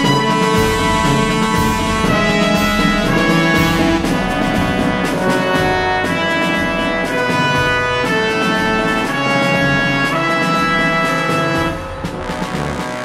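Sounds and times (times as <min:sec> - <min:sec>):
brass music held chords: 0:00.0 - 0:13.0.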